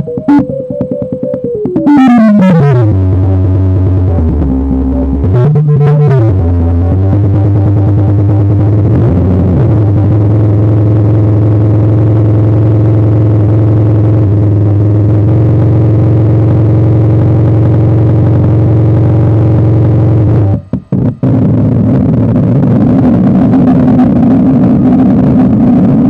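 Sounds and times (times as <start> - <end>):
synth droning low buzzing tone: 0.0 - 26.0.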